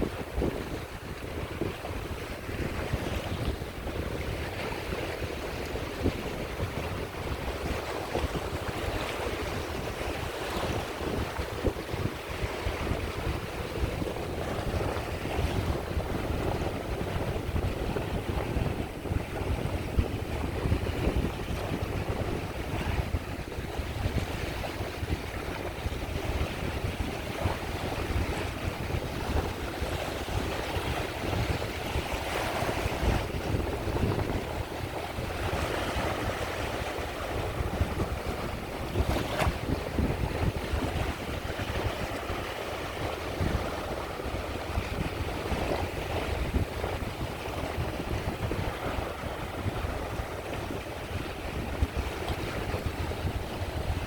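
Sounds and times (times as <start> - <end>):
sea waves washing onto shore: 0.0 - 54.0
wind on microphone: 0.0 - 54.0.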